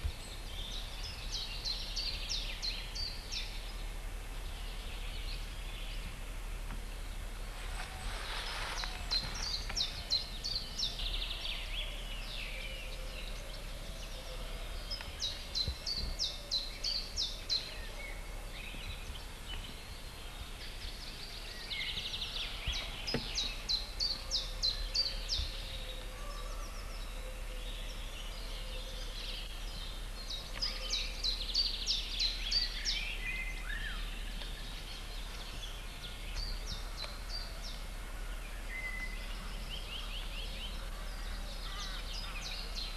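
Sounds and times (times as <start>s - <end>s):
songbirds singing: 0.0s - 42.9s
steady low hum: 0.0s - 42.9s.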